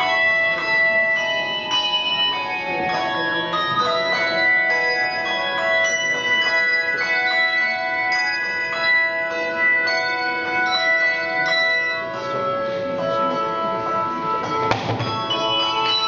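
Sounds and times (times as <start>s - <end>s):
handbell ensemble ringing a tune: 0.0s - 16.0s.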